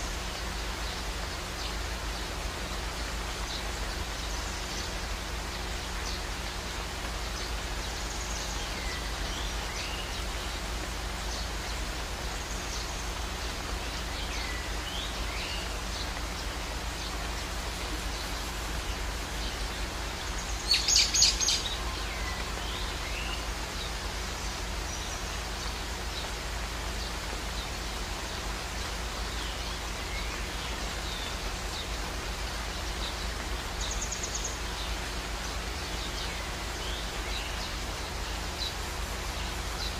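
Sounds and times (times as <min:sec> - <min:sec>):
outdoor background hiss: 0:00.0 - 0:39.9
rapid bird chatter: 0:00.0 - 0:39.9.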